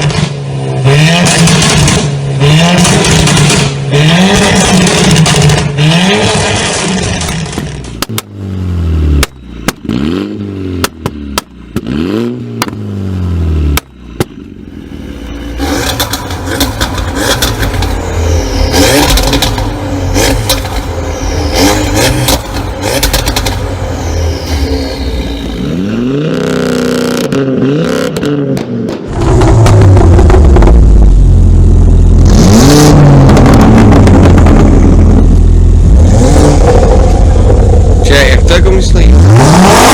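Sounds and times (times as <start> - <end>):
car engine revving: 0.0 - 39.9
exhaust popping and crackling: 1.2 - 8.5, 9.1 - 10.0, 10.7 - 13.0, 13.6 - 39.9.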